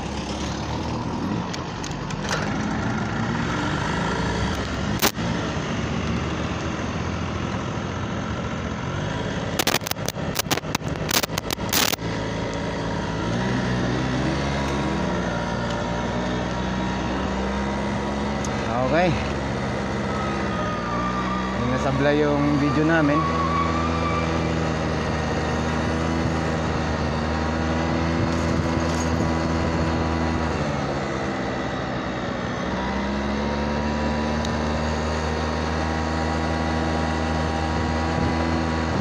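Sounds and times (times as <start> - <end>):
motorbike engine revving: 0.0 - 7.8, 8.4 - 39.0.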